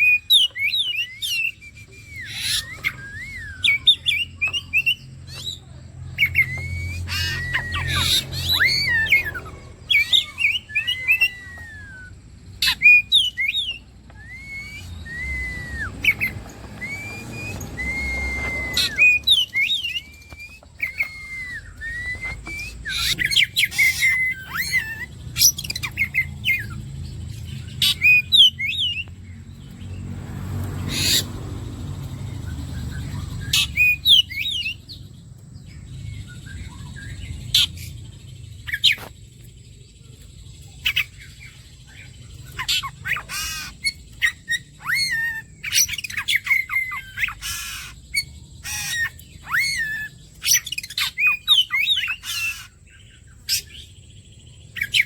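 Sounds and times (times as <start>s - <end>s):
bird singing whistled phrases: 0.0s - 29.1s, 32.1s - 38.0s, 40.8s - 52.8s.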